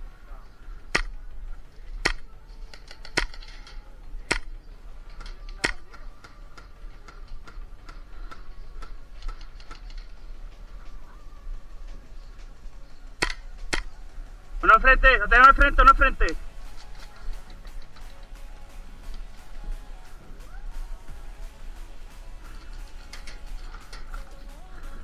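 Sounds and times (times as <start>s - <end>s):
sharp clicks: 0.0s - 25.0s.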